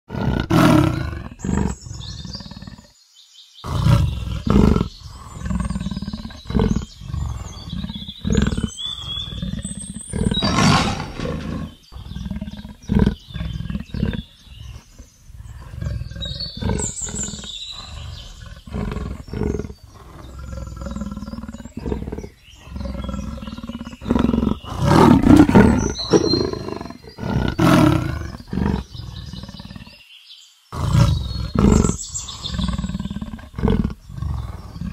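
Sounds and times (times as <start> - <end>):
leopard growling and roaring: 0.1 - 2.9, 3.6 - 30.0, 30.7 - 34.9.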